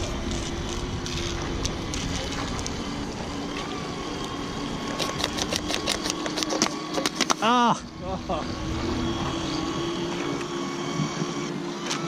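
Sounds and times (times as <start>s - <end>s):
model boat motor hum: 0.0s - 12.0s
water noise: 0.0s - 12.0s.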